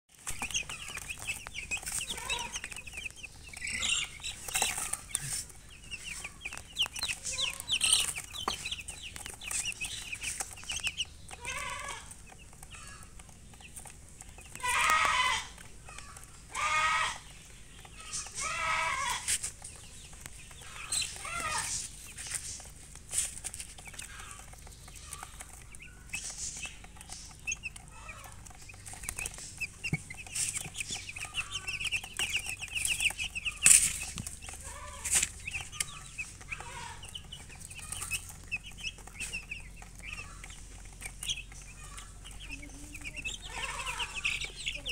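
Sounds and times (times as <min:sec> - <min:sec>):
baby chicks peeping: 0:00.1 - 0:44.9
hen clucking: 0:00.1 - 0:44.9.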